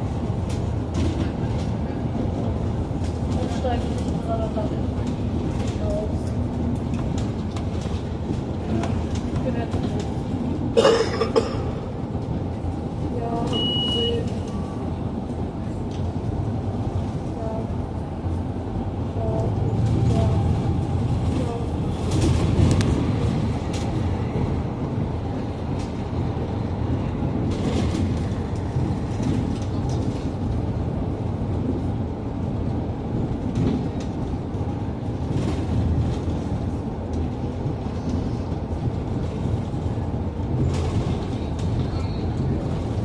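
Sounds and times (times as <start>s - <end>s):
bus body rattles and clicks: 0.0s - 43.0s
bus engine and road noise: 0.0s - 43.0s.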